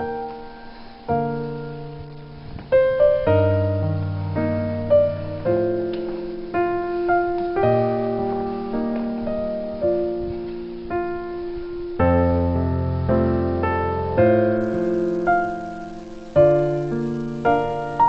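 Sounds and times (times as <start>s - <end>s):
slow solo piano: 0.0s - 18.0s.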